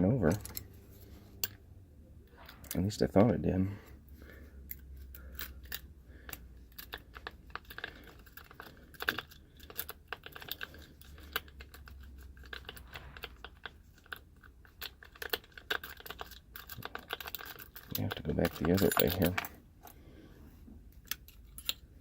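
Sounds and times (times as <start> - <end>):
lock picks clicking and scraping: 0.0 - 1.6, 4.3 - 20.0, 20.9 - 22.0.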